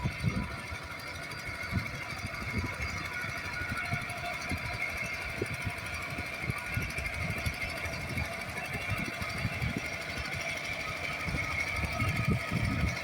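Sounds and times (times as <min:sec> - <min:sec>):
engine knocking: 0:00.0 - 0:13.0
high engine whine: 0:00.0 - 0:13.0.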